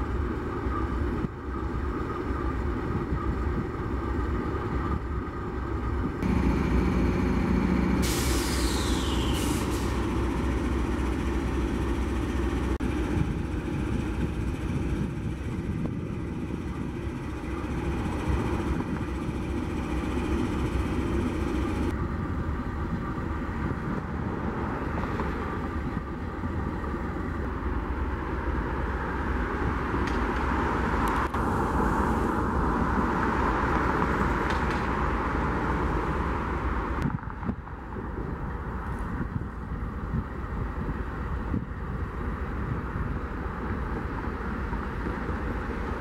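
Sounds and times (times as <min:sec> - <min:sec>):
moving vehicle rumble: 0:00.0 - 0:46.0.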